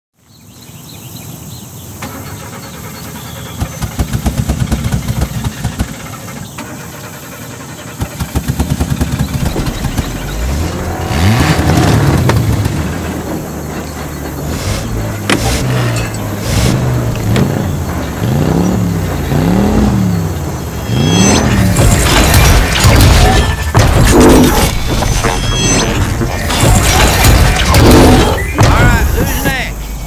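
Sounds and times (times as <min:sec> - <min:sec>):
car engine running and revving: 0:03.1 - 0:29.2.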